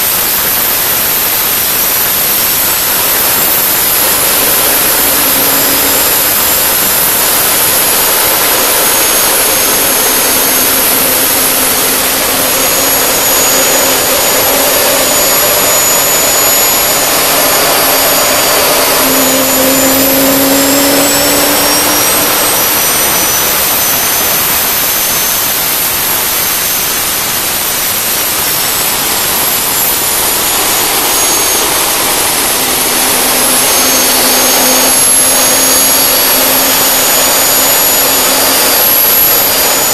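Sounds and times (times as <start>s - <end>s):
gas turbine running: 0.0s - 39.9s
high-pitched whines: 0.0s - 39.9s.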